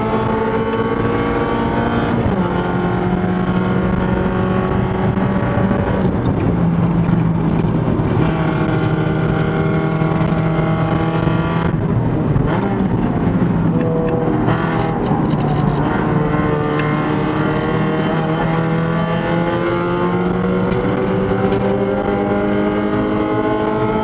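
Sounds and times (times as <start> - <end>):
race car engine running hard: 0.0 - 24.0
road and wind noise: 0.0 - 24.0.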